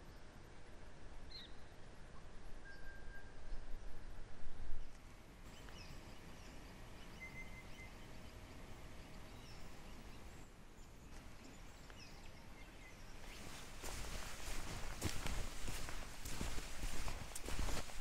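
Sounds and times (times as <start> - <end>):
faint bird chirps: 1.3 - 18.0.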